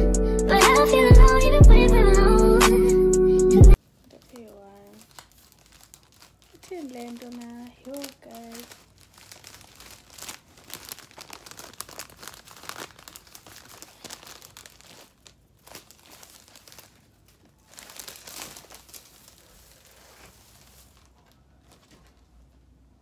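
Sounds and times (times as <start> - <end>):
plastic film crinkling: 3.8 - 23.0.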